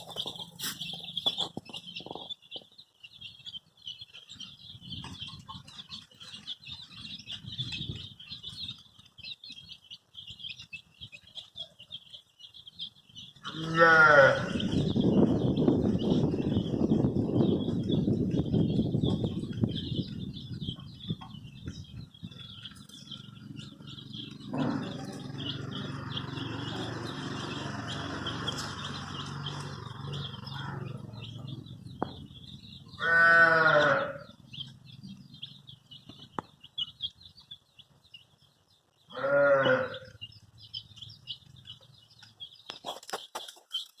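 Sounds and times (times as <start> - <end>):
baby chicks peeping: 0.0 - 44.0.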